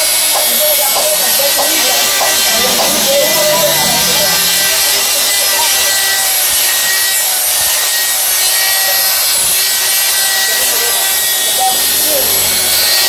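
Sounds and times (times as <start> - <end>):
die grinder grinding metal: 0.0 - 13.0.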